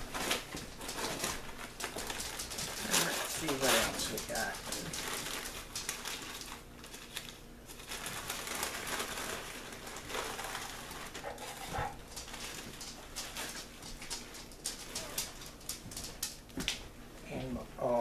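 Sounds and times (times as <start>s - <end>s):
wrapping paper crinkling: 0.0s - 16.5s.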